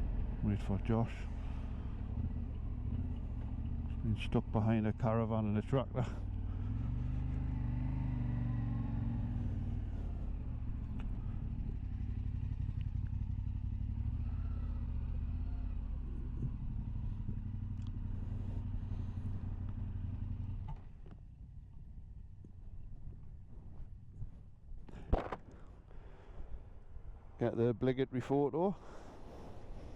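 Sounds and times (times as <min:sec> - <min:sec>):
motorcycle engine idling: 0:00.0 - 0:27.4.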